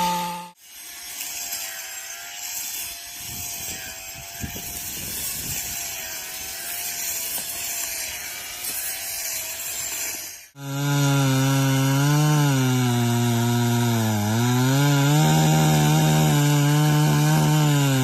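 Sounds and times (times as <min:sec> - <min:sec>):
electric brush cutter whine: 0:00.0 - 0:18.0.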